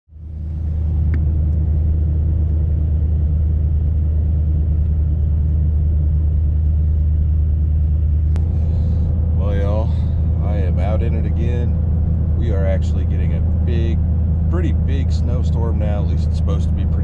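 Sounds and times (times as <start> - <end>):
truck rumbling from inside cab: 0.1 - 17.0.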